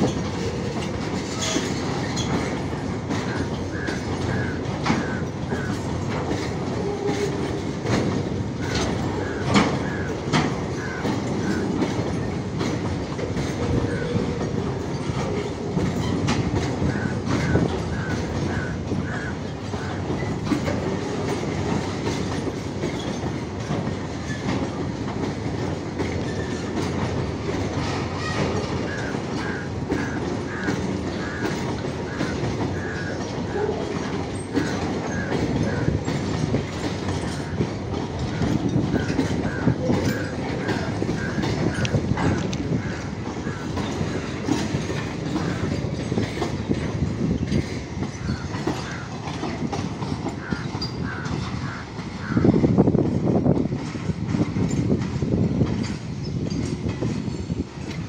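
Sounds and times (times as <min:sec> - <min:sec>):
freight train rumbling past: 0:00.0 - 0:58.0
wheels clattering over rail joints: 0:00.0 - 0:58.0.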